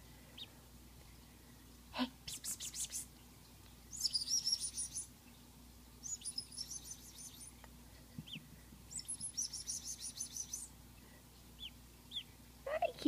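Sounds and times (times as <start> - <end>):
duckling peeping: 0.3 - 1.2, 2.3 - 12.9.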